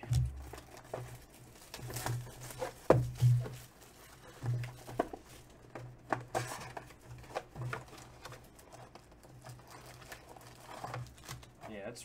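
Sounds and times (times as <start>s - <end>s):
cardboard box handling: 0.1s - 11.7s.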